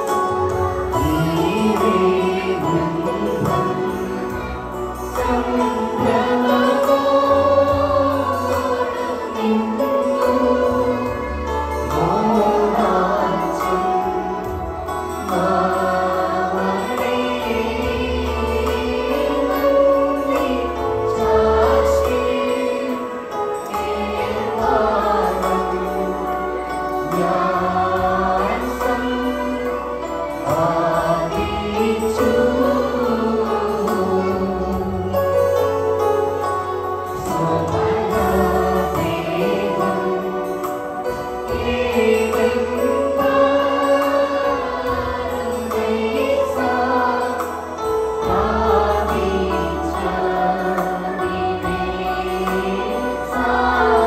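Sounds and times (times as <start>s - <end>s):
church choir singing a hymn: 0.0s - 54.0s.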